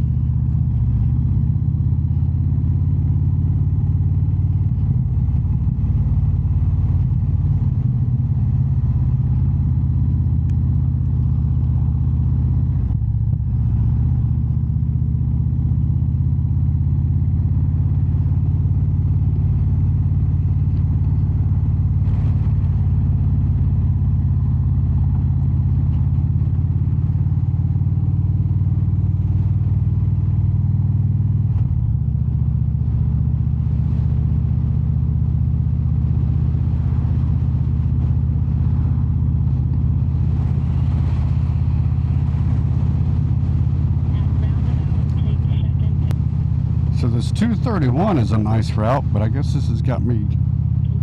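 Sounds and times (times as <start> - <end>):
motorcycle engine running: 0.0 - 51.0
road noise: 0.0 - 51.0.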